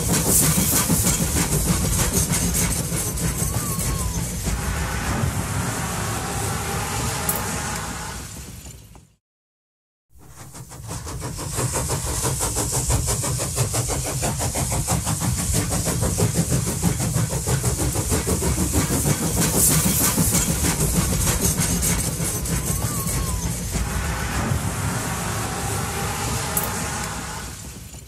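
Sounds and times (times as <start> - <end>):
steam train running: 0.0 - 9.2, 10.1 - 28.0.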